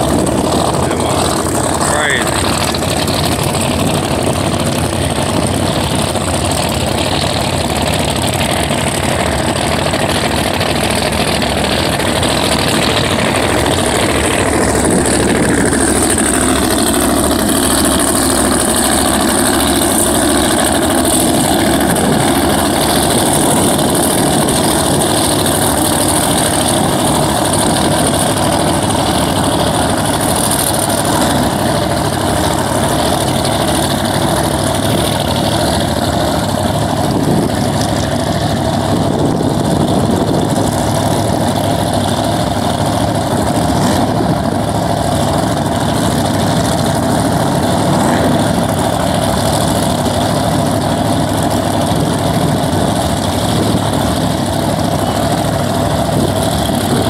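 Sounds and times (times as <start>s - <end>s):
drag race car engines running: 0.0s - 57.0s
high whine: 0.0s - 57.0s.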